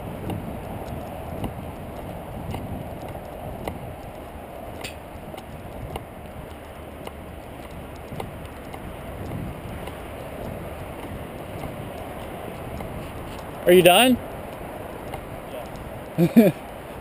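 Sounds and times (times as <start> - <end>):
bicycle rolling on trail: 0.0 - 17.0.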